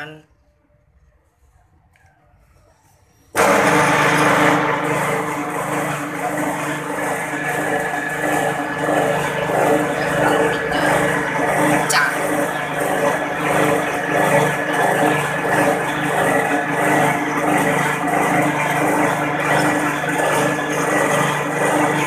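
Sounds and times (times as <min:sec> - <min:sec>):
metal lathe drone with high whine: 0:03.3 - 0:22.0.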